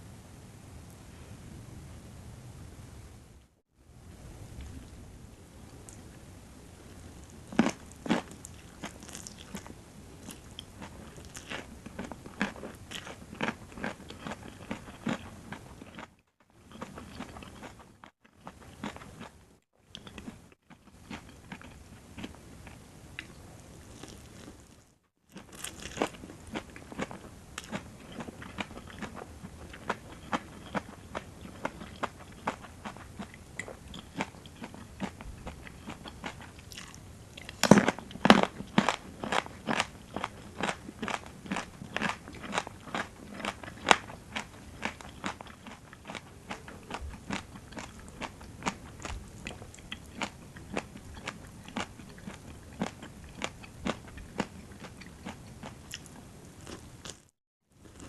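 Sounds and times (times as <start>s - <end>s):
crunchy chewing and biting: 7.0s - 58.0s.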